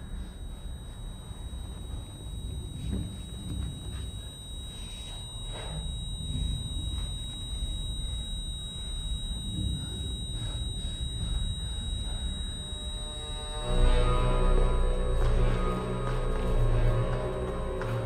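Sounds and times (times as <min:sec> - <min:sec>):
thin high tone: 0:00.0 - 0:18.0.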